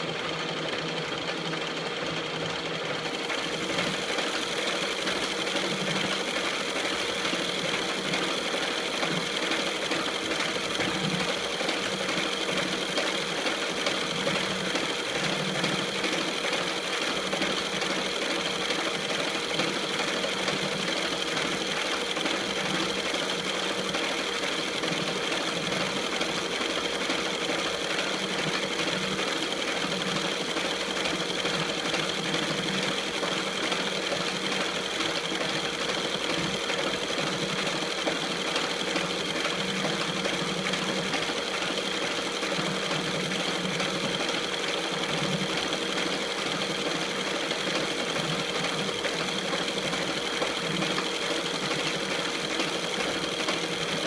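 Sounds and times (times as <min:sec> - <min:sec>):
metal lathe humming and whining: 0:00.0 - 0:54.0.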